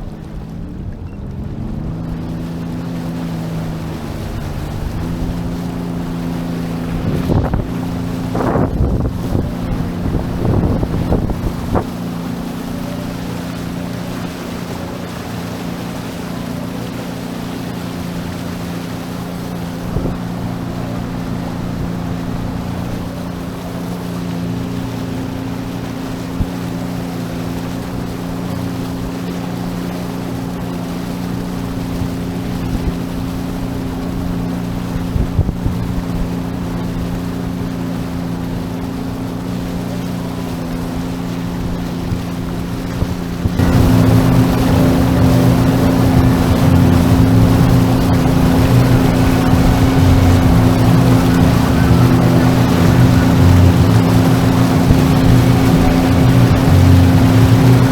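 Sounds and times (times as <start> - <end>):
water and wind noise: 0.0 - 57.9
watercraft engine running: 0.0 - 57.9.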